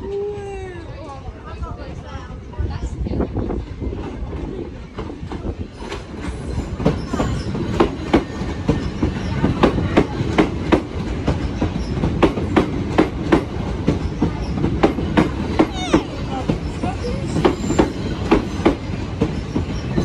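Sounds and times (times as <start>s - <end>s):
train rumble: 0.0s - 20.0s
train wheels clacking over joints: 3.6s - 20.0s.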